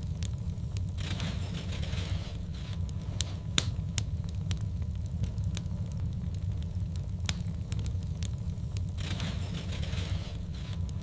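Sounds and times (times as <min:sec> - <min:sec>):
burning logs popping and snapping: 0:00.0 - 0:11.0
low rumble of flames: 0:00.0 - 0:11.0.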